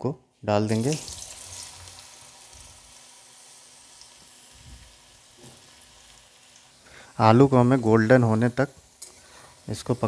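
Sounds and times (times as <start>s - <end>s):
potatoes sizzling in hot oil: 0.7s - 10.0s.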